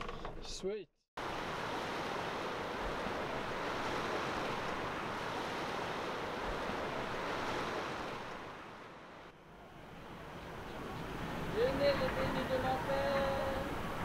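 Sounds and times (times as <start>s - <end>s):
wind: 0.0s - 14.0s
ocean surf: 1.2s - 14.0s.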